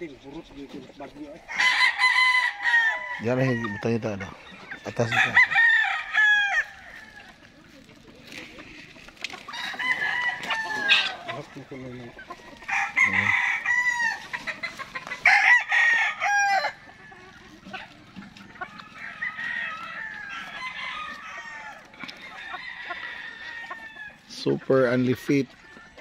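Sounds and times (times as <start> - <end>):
hens clucking: 0.0 - 26.0
roosters crowing: 0.0 - 26.0.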